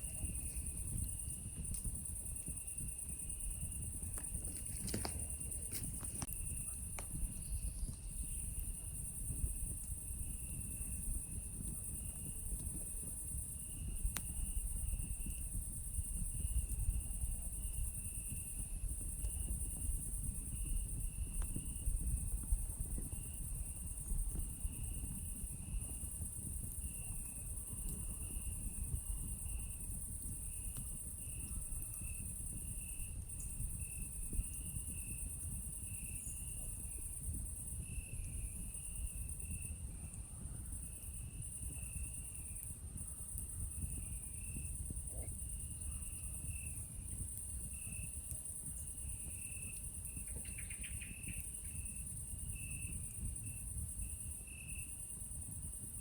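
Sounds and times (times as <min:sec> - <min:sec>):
campfire crackling: 0:00.0 - 0:56.0
night insects buzzing and chirping: 0:00.0 - 0:56.0.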